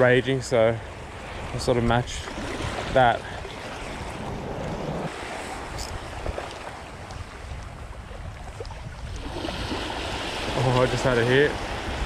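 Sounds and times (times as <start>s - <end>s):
small waves lapping: 0.8s - 12.0s
wind rumbling on microphone: 1.0s - 12.0s.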